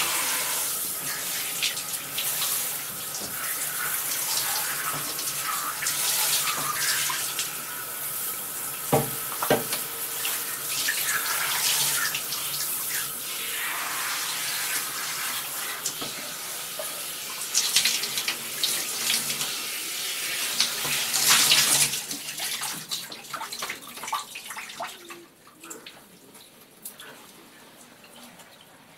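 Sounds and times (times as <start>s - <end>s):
shower spraying water: 0.0s - 25.2s.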